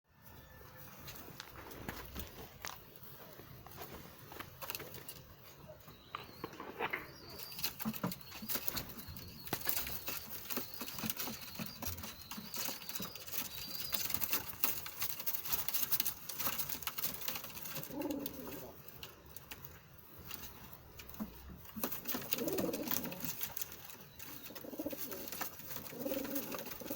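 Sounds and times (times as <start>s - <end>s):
pigeons clicking and scuffling: 0.9s - 26.9s.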